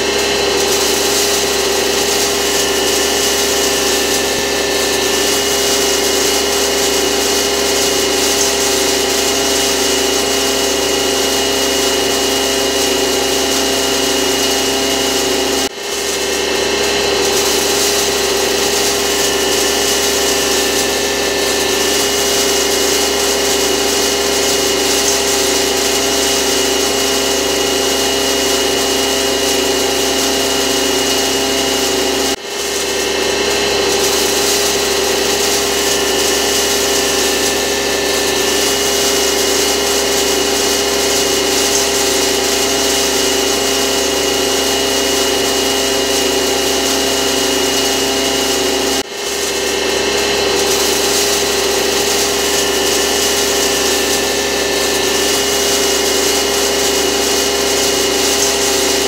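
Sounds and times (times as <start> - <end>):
grinding mill running: 0.0 - 59.0.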